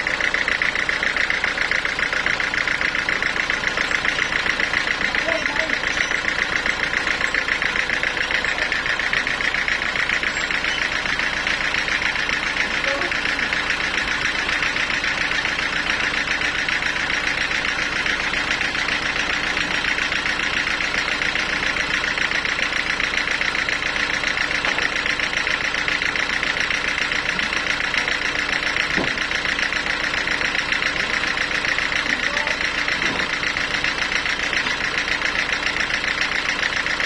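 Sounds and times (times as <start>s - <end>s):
band sawmill droning: 0.0s - 37.0s.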